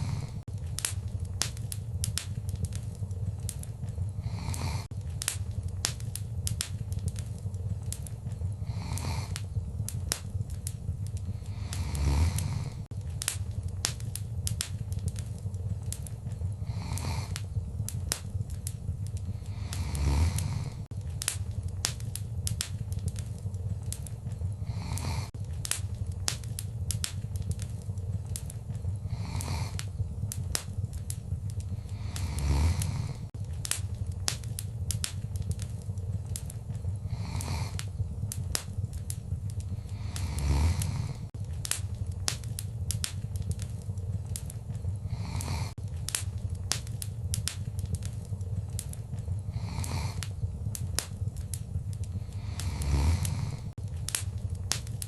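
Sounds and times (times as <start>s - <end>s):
low rumble of flames: 0.0s - 55.0s
soft hiss of fire: 0.0s - 55.0s
wood fire crackling: 0.0s - 55.0s.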